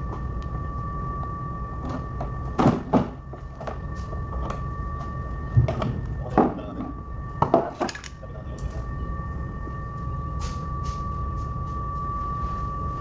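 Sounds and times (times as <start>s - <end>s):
steady low hum: 0.0s - 13.0s
thin high whine: 0.0s - 13.0s.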